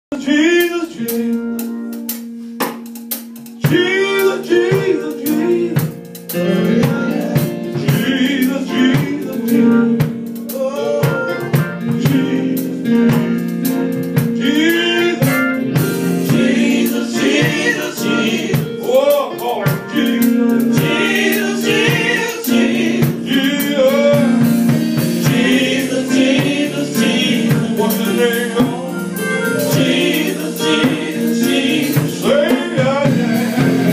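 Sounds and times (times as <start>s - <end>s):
gospel singers: 0.1s - 2.6s, 3.2s - 33.9s
drums: 0.1s - 33.9s.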